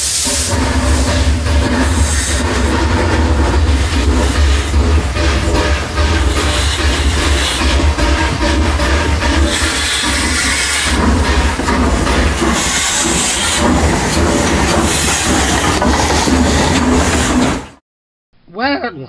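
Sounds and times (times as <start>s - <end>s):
train running on rails: 0.0s - 17.8s.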